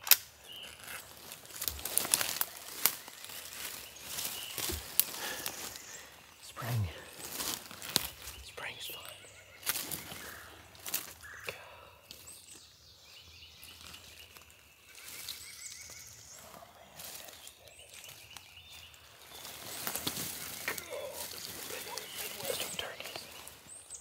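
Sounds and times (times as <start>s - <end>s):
songbirds calling: 0.0s - 24.0s
leaves and feathers rustling: 0.3s - 24.0s.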